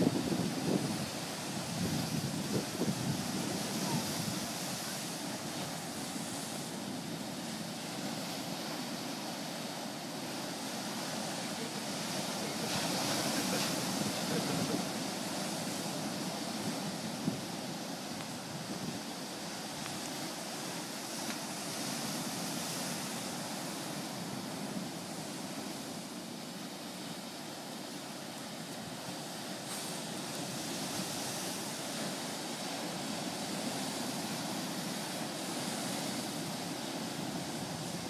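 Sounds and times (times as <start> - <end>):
ocean waves breaking: 0.0 - 38.0.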